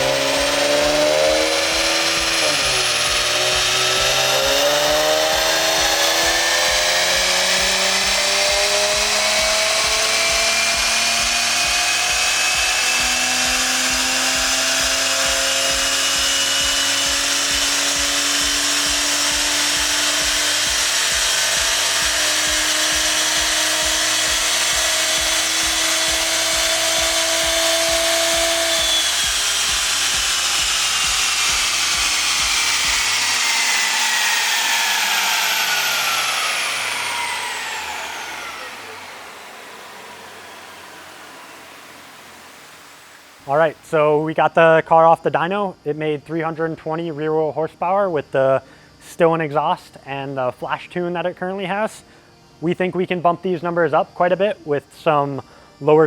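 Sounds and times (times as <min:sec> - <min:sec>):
car engine full-throttle dyno pull: 0:00.0 - 0:48.6.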